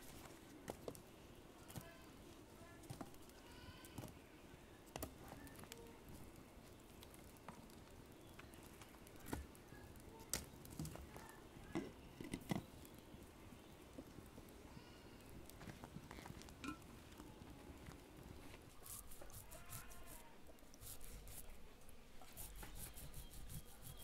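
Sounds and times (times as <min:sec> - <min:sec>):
wood fire hissing: 0:00.0 - 0:21.6.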